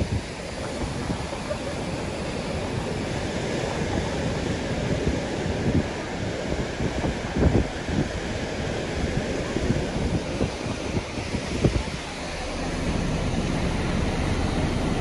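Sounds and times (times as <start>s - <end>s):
heavy surf breaking: 0.0s - 15.0s
wind gusting on microphone: 0.0s - 15.0s.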